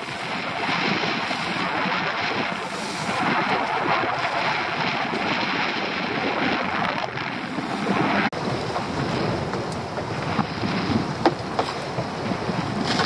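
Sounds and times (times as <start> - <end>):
water washing against boat hull: 0.0 - 13.0
wind buffeting microphone: 0.0 - 13.0.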